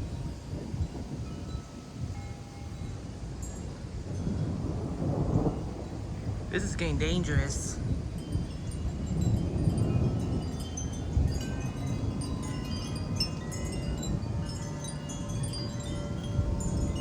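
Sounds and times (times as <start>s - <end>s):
metal wind chimes ringing: 0.0s - 6.0s, 6.7s - 17.0s
low rumble of wind: 0.0s - 17.0s.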